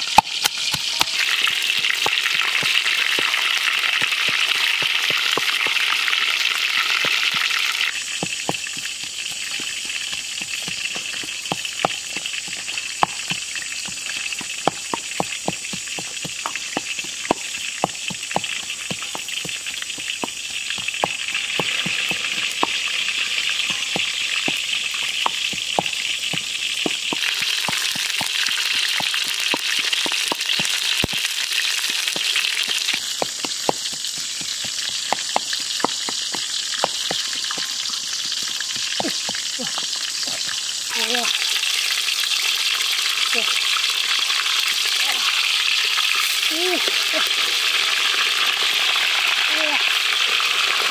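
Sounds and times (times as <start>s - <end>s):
pestle pounding in a mortar: 0.0s - 41.4s
steady high hiss: 0.0s - 48.8s.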